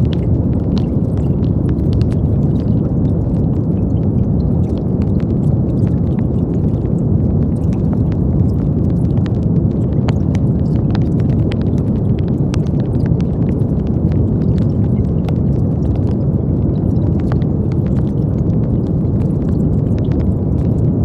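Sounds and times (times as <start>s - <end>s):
deep rushing brown noise: 0.0s - 21.0s.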